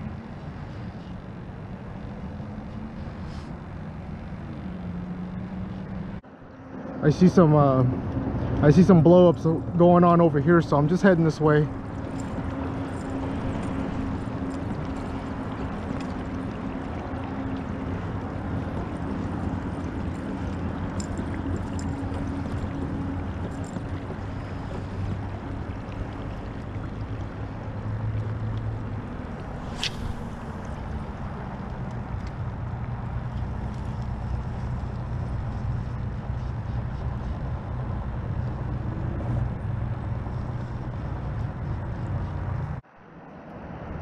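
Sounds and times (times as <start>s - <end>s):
boat engine drone: 0.0s - 44.0s
water noise: 0.0s - 44.0s.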